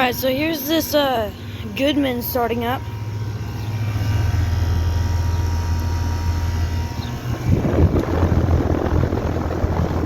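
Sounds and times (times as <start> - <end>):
air conditioner unit humming: 0.0 - 10.0
faint high whine: 0.0 - 10.0.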